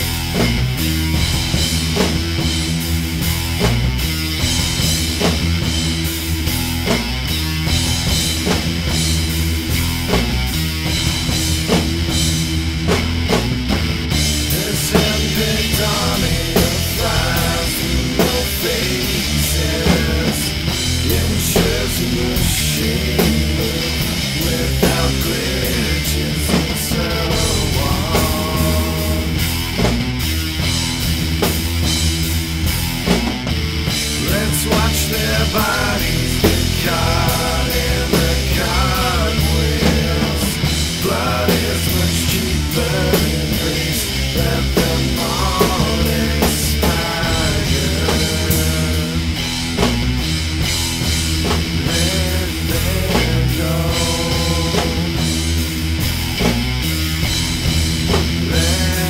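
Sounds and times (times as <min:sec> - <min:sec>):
heavy rock music: 0:00.0 - 0:59.0.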